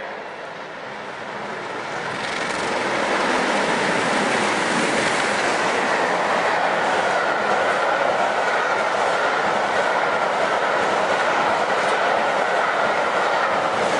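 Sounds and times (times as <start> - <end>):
train rumble and hiss: 0.0 - 13.9.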